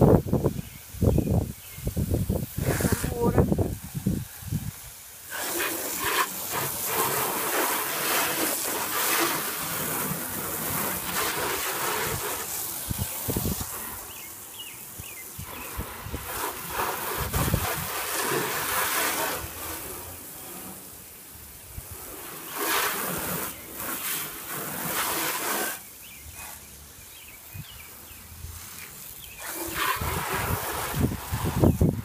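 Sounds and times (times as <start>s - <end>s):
hose water spraying on car: 0.0s - 32.0s.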